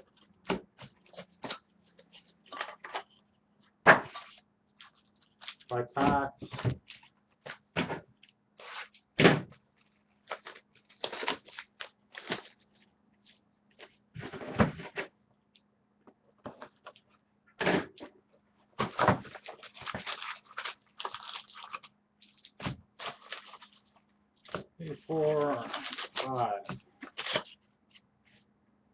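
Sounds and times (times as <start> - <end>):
card packs rustling and tapping: 0.0 - 15.1, 18.7 - 27.6.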